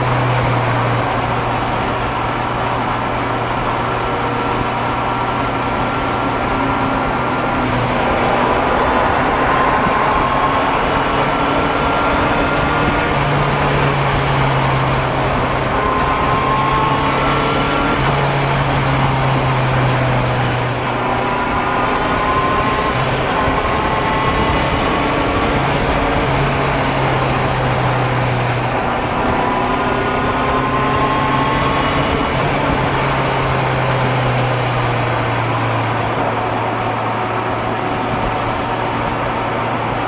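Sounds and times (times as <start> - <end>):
wind and road noise: 0.0 - 40.0.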